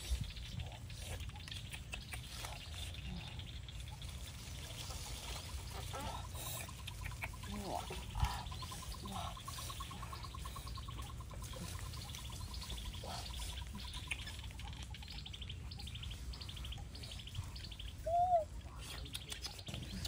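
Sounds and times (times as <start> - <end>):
birds trilling: 0.0 - 20.0.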